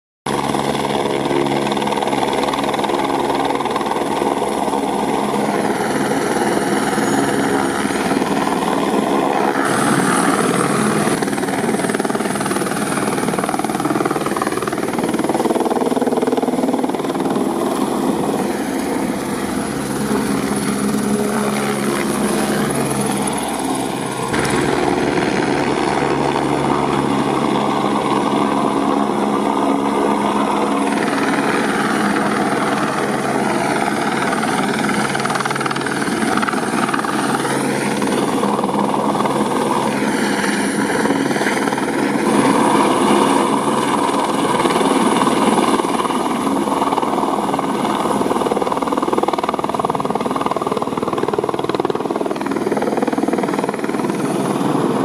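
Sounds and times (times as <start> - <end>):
helicopter turbine and rotor noise: 0.3 - 55.0.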